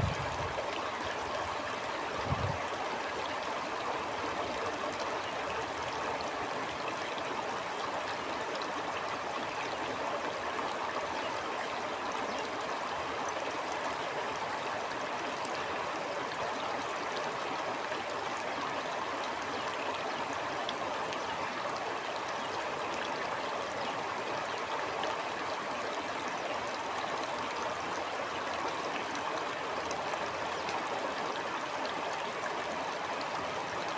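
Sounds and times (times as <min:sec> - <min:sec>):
stream water flowing over rocks: 0:00.0 - 0:33.9.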